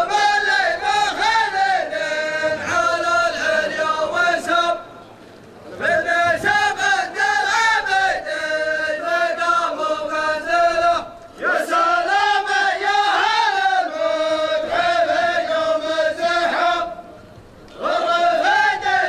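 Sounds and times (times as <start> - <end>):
men chanting in unison: 0.0 - 4.9, 5.7 - 17.2, 17.8 - 19.0.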